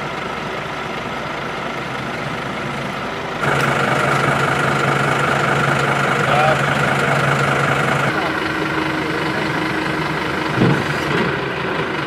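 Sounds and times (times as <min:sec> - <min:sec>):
tow truck engine hum with whine: 0:00.0 - 0:12.0
vehicle engine idling: 0:00.0 - 0:12.0.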